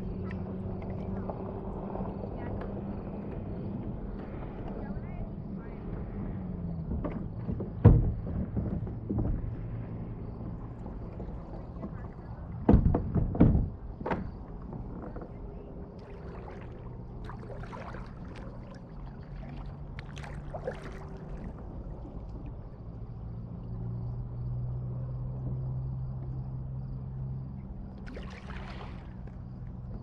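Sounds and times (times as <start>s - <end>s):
water lapping against kayak: 0.0s - 30.0s.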